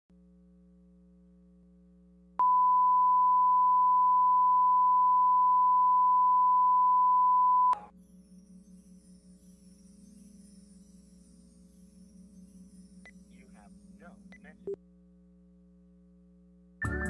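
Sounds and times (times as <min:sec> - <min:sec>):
faint low hum: 0:00.1 - 0:16.8.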